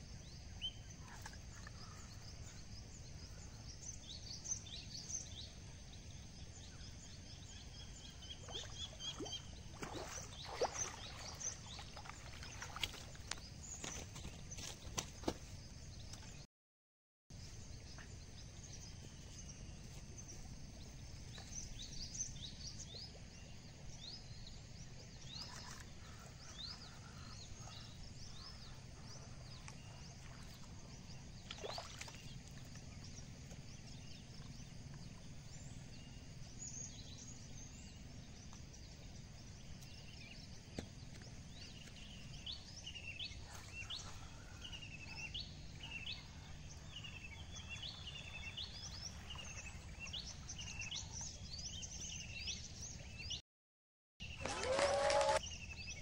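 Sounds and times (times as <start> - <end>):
birds chirping: 0.0 - 16.4, 17.4 - 53.4.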